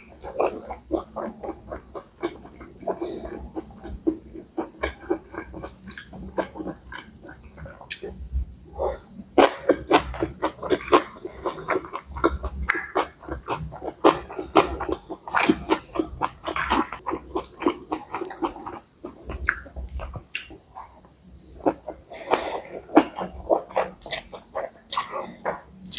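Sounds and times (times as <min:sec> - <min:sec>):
person chewing and smacking: 0:00.0 - 0:25.9.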